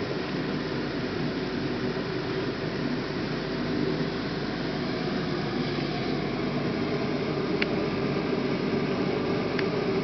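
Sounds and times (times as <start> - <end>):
milling machine hum and hiss: 0.0 - 10.0.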